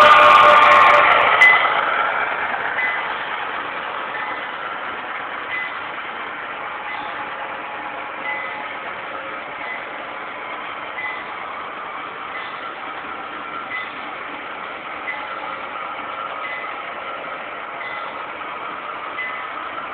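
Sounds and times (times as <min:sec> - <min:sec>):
diesel engine sound: 0:00.0 - 0:19.9
model train wheels on track: 0:00.0 - 0:19.9.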